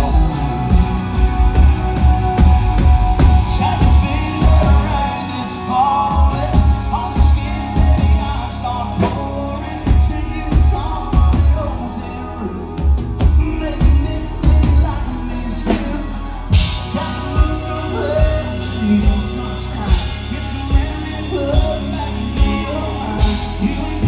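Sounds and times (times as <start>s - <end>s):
live rock band playing: 0.0s - 24.0s
man singing lead: 0.0s - 24.0s.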